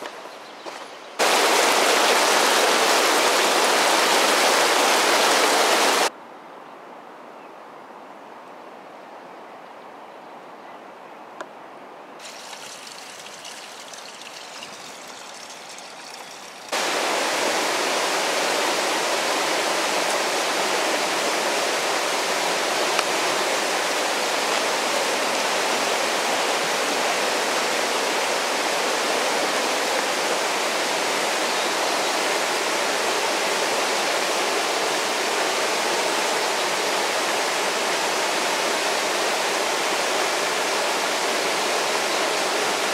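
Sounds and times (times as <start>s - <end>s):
creek water rushing: 0.0s - 6.1s, 12.2s - 42.9s.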